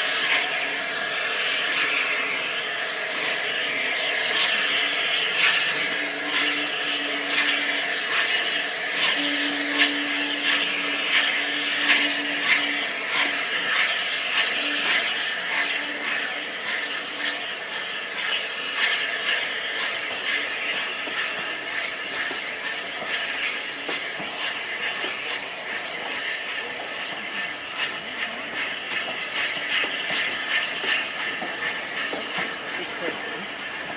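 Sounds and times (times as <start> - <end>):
train wheels clicking over rail joints: 0.0 - 33.9.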